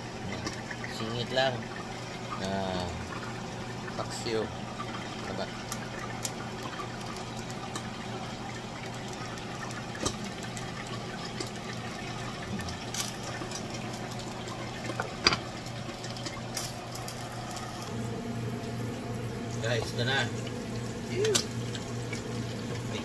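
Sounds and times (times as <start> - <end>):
low steady hum: 0.0 - 23.0
water boiling with bubbling hiss: 0.0 - 23.0.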